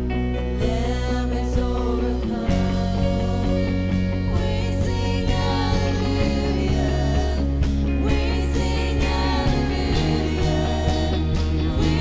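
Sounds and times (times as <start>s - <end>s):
live worship band playing: 0.0s - 12.0s
steady bass: 0.0s - 12.0s.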